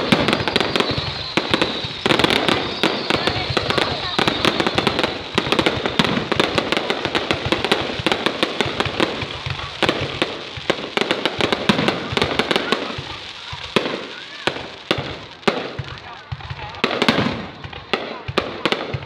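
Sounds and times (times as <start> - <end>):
fireworks cracking and banging: 0.0 - 19.0.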